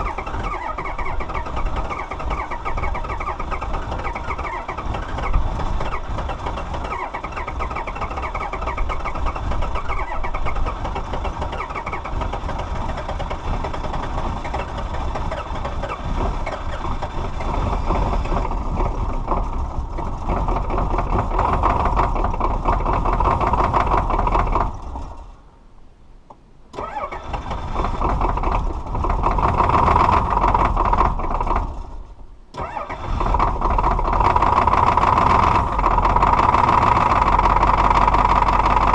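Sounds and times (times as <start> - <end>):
diesel engines clattering: 0.0 - 25.5, 26.7 - 38.9.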